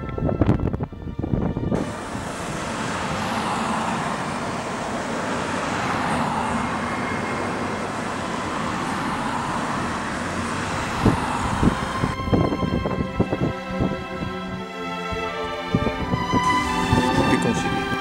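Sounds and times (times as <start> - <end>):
tyres on road: 0.0 - 18.0
car engine: 1.7 - 18.0.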